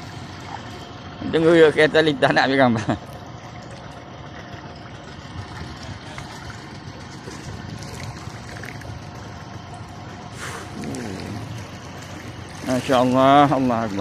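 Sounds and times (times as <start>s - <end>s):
car engine hum: 0.0s - 14.0s
water washing around car: 0.0s - 14.0s.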